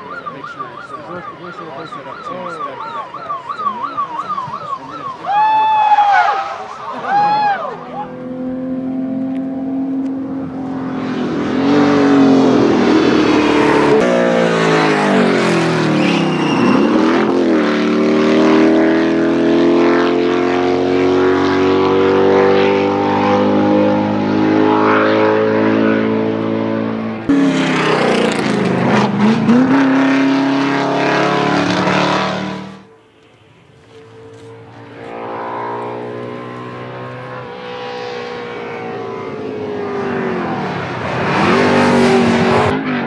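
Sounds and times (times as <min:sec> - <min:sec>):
race car engines accelerating: 0:00.0 - 0:43.0
race car passing by: 0:00.9 - 0:32.9, 0:33.7 - 0:43.0.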